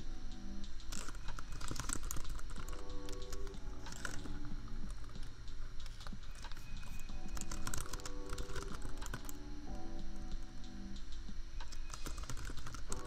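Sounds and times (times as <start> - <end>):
laptop fan hum: 0.0 - 13.0
lofi background music: 0.0 - 13.0.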